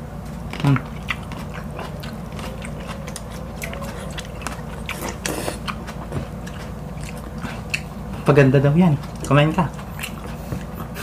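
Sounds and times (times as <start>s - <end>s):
steady low hum: 0.0s - 11.0s
wet chewing clicks and smacks: 0.2s - 11.0s.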